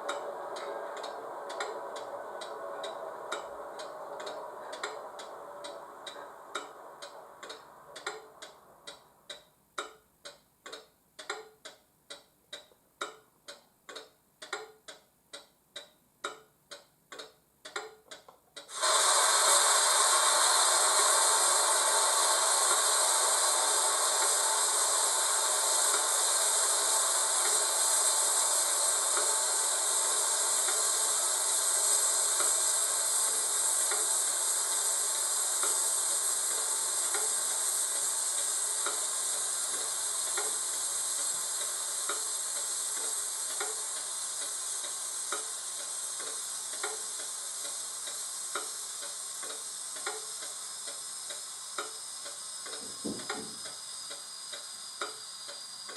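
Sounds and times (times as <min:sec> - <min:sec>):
steady hiss: 0:00.0 - 0:14.8, 0:18.6 - 0:55.9.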